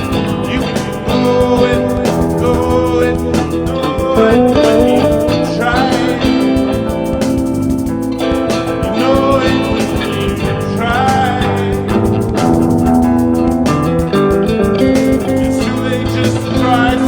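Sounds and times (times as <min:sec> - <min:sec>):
band playing improvised music: 0:00.0 - 0:17.0
guitar with sliding notes: 0:00.0 - 0:17.0.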